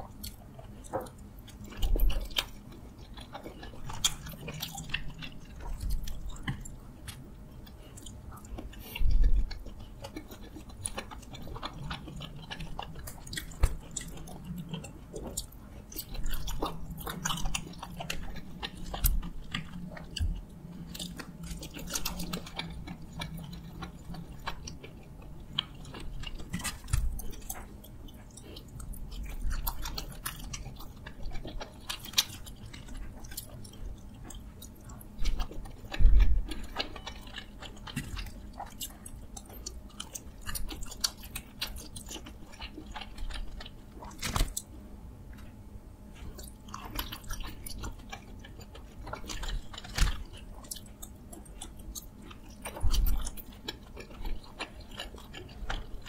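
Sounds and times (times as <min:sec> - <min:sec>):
chewing dumplings: 0:00.0 - 0:56.0.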